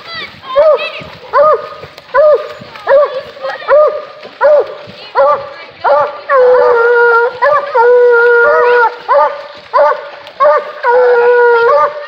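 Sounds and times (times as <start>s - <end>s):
hounds baying and barking: 0.6s - 12.0s.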